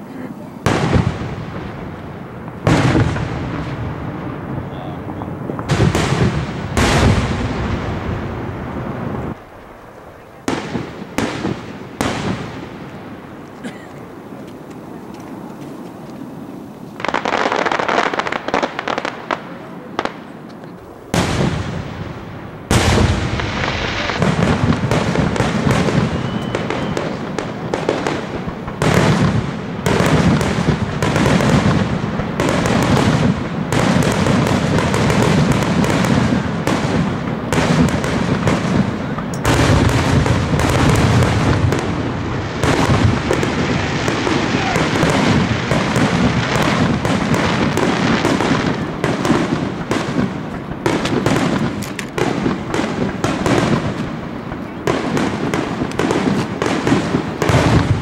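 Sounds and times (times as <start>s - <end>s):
fireworks bursting: 0.0s - 58.0s
fireworks crackling: 0.0s - 58.0s.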